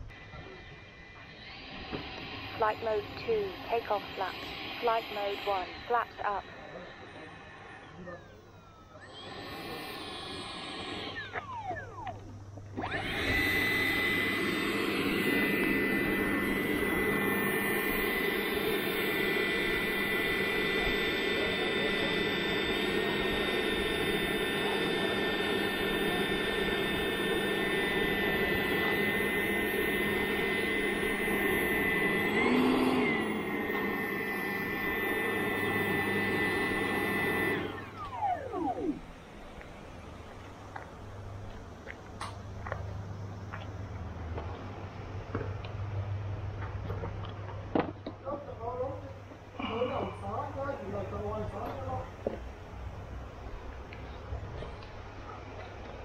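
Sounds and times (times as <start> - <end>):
electric ducted fan whining: 0.0 - 56.0.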